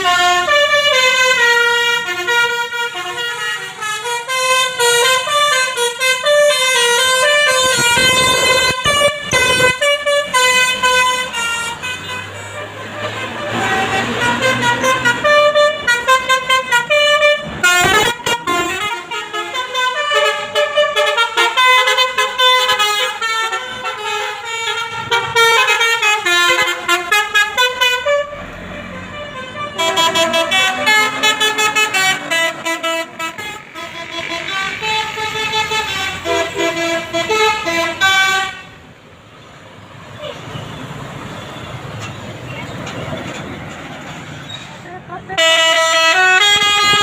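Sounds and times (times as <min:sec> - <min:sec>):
bus musical horn hooting: 0:00.0 - 0:39.0, 0:40.1 - 0:42.6, 0:45.0 - 0:47.0.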